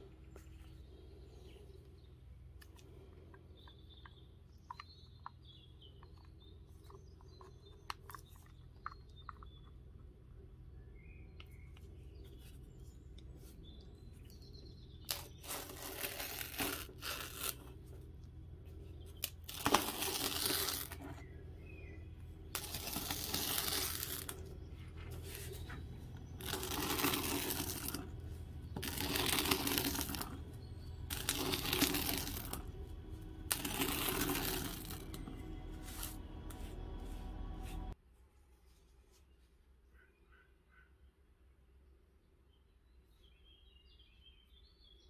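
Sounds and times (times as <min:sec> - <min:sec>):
low steady hum: 0:00.0 - 0:39.1.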